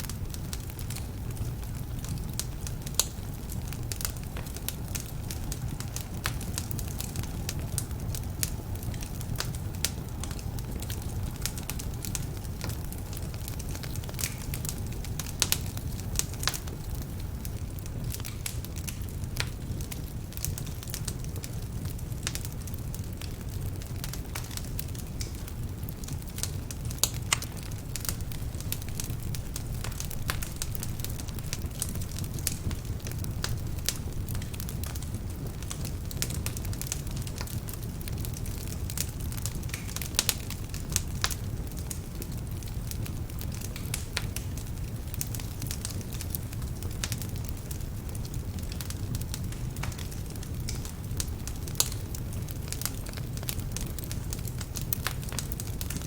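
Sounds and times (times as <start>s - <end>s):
fire flames rumbling: 0.0s - 56.0s
logs crackling and popping: 0.0s - 56.0s.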